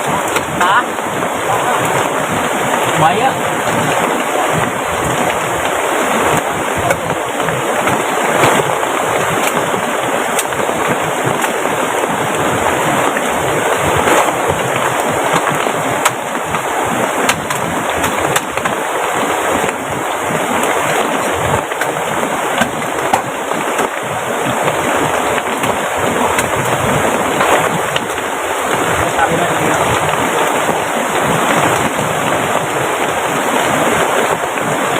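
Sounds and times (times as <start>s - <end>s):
heavy rain: 0.0s - 34.9s
river rushing: 0.0s - 34.9s.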